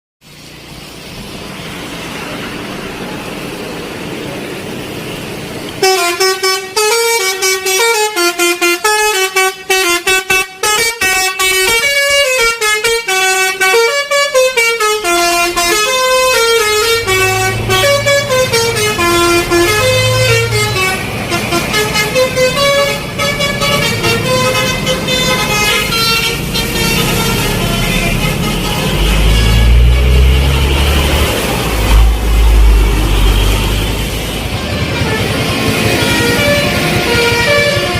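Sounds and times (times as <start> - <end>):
truck air horn playing a tune: 5.8 - 37.9.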